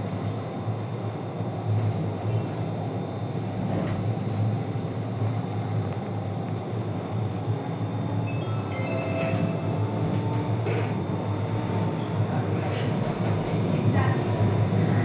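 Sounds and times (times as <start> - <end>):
tram motors and wheels rumbling: 0.0 - 15.0.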